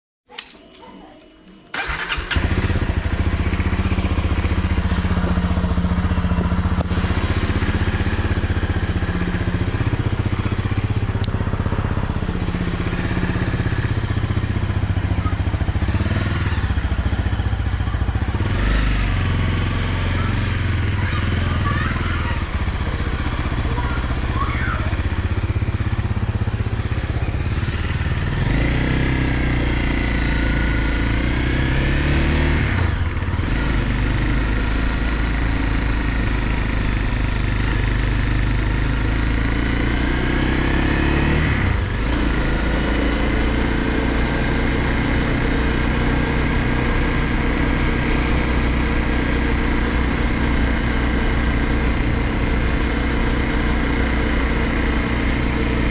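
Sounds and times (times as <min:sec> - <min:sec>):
motorcycle engine accelerating: 0:01.7 - 0:55.9.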